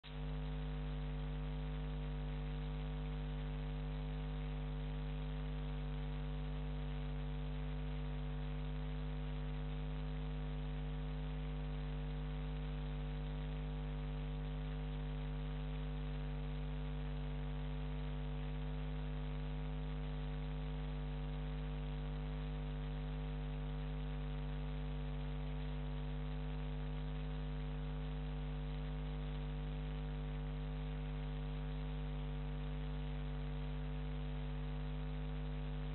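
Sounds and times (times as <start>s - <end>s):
electrical mains hum: 0.0s - 35.9s.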